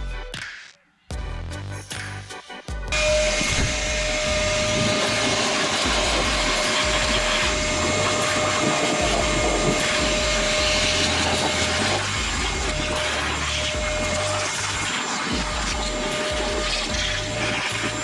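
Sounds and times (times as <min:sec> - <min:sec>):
loud hiss: 0:03.0 - 0:18.0
machine motor whine: 0:03.0 - 0:18.0.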